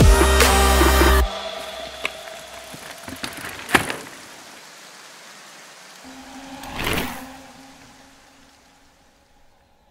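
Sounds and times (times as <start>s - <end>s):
faint hiss: 0.5s - 9.9s.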